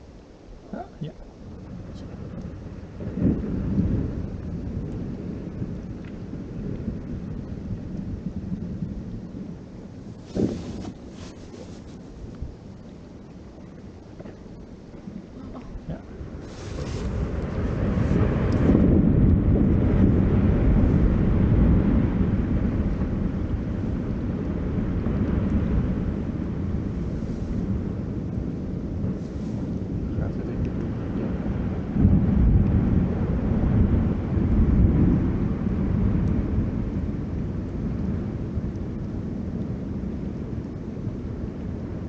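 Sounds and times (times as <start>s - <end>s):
deep rumble of ice collapsing: 0.6s - 42.0s.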